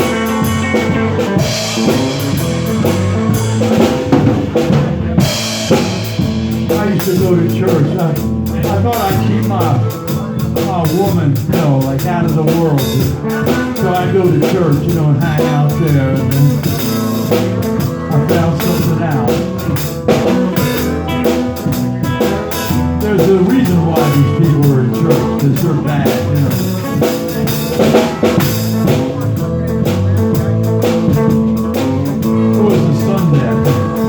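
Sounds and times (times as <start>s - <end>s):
bending lead melody: 0.0s - 34.0s
blues band playing: 0.0s - 34.0s.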